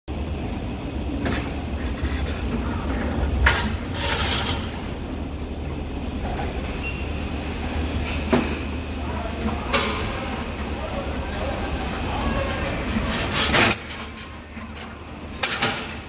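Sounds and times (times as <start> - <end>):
machinery low rumble: 0.1 - 15.4.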